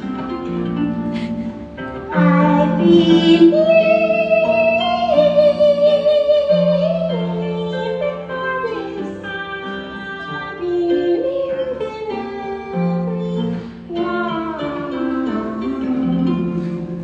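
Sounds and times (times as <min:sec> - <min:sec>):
harp plucked notes: 0:00.0 - 0:17.0
woman singing: 0:02.0 - 0:17.0.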